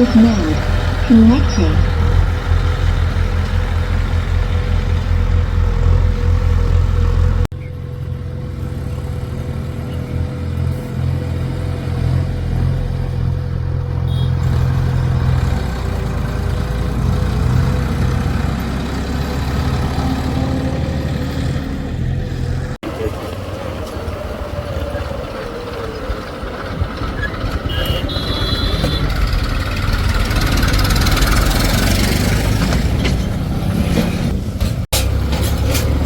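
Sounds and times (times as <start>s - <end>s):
diesel engine running: 0.0s - 33.6s.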